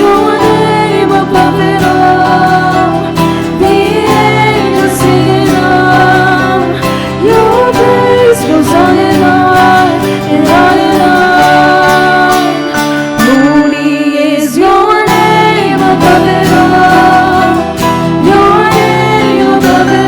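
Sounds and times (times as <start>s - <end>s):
bass: 0.0s - 13.1s, 15.1s - 20.0s
guitar: 0.0s - 20.0s
person singing: 0.0s - 20.0s.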